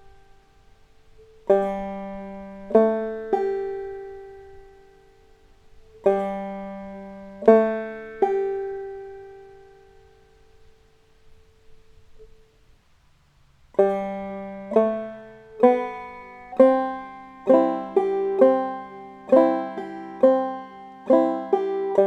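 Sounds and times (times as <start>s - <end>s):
banjo notes: 0.0s - 12.6s, 13.7s - 22.0s.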